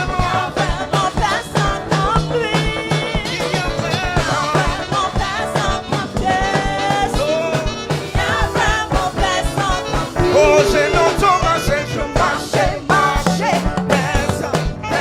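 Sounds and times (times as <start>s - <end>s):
bass: 0.0s - 15.0s
choir singing gospel: 0.0s - 15.0s
drum beat: 0.0s - 15.0s.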